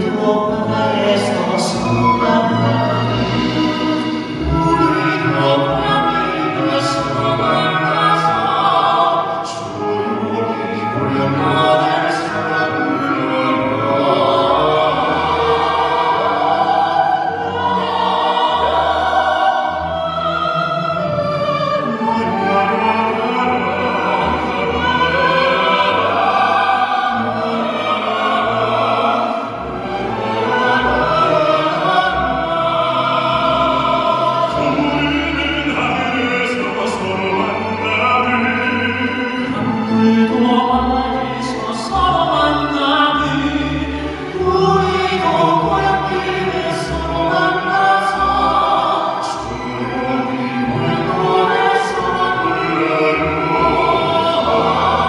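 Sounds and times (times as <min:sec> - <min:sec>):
men singing operatically: 0:00.0 - 0:20.0, 0:21.9 - 0:55.0
orchestral accompaniment: 0:00.0 - 0:55.0.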